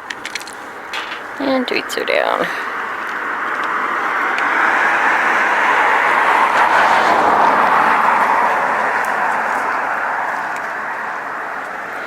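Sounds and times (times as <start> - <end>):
vehicle tyre and road noise: 0.0 - 12.0.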